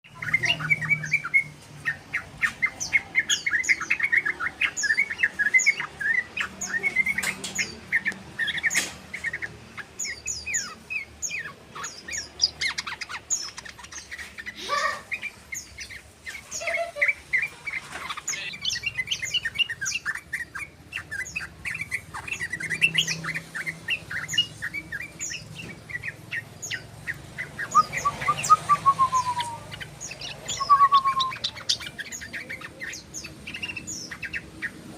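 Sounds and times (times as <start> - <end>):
bird chattering chirps: 0.1 - 34.9.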